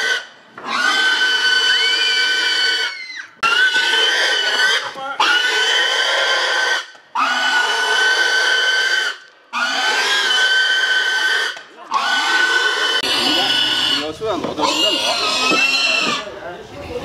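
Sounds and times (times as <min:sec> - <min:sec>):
hog squealing: 0:00.0 - 0:16.3.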